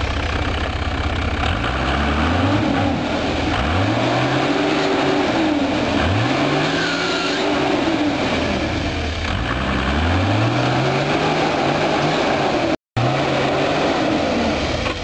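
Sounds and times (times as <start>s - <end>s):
engine revving under load: 1.4s - 15.0s.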